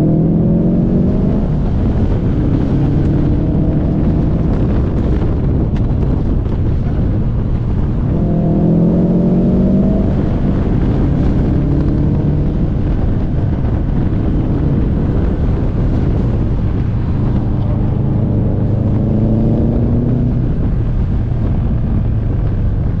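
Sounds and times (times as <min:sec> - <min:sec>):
car engine pulling hard: 0:00.0 - 0:23.0
wind rumble on microphone: 0:00.0 - 0:23.0.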